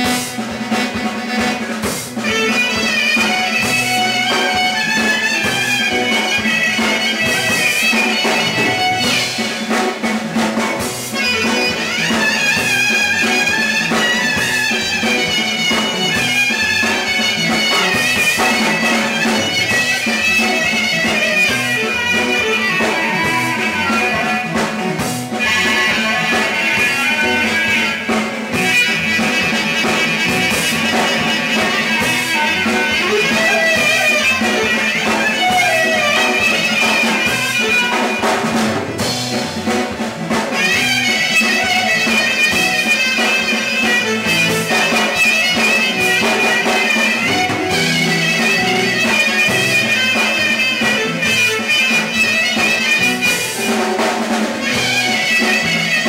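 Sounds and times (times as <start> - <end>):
clarinet melody: 0.0 - 56.0
folk band playing: 0.0 - 56.0.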